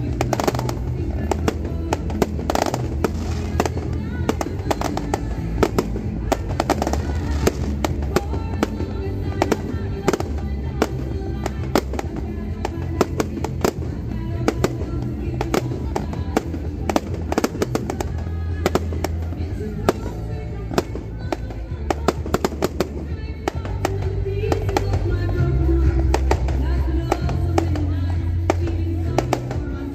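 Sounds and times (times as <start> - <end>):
fireworks bangs and crackles: 0.0 - 29.9
music with strong bass: 0.0 - 29.9.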